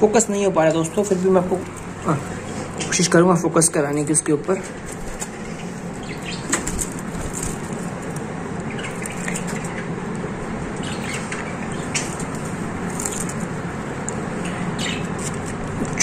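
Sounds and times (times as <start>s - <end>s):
cage birds chirping: 0.0s - 16.0s
steady background noise: 0.0s - 16.0s.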